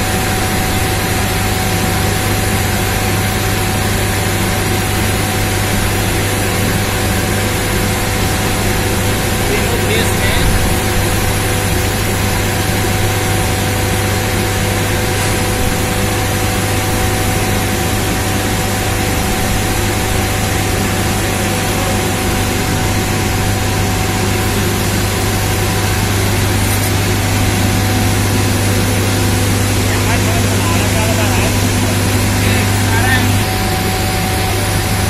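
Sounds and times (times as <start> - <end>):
steam turbine hiss and hum: 0.0 - 35.0.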